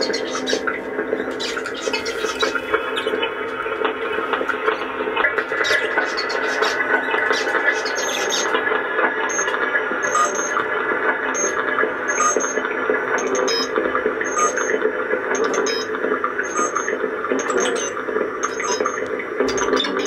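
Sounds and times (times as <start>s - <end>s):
electronic droning noise music: 0.0s - 20.0s.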